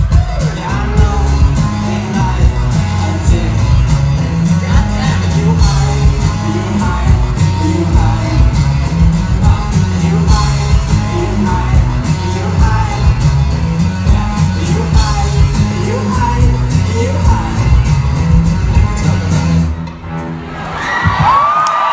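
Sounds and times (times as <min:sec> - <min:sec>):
person singing: 0:00.0 - 0:19.7
live rock band playing: 0:00.0 - 0:21.4.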